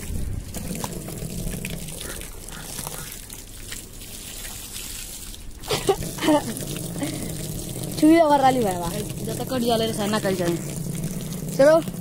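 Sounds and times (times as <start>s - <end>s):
water gushing from pipe: 0.0s - 12.0s.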